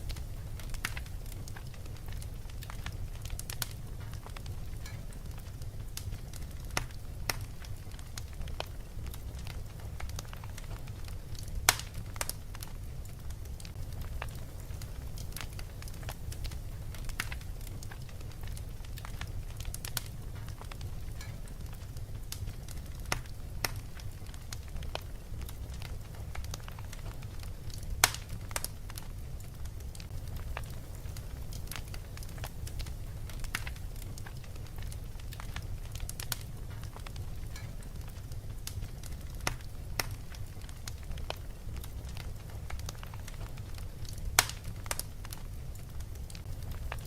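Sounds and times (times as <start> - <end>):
fireplace fire crackling: 0.0 - 47.0.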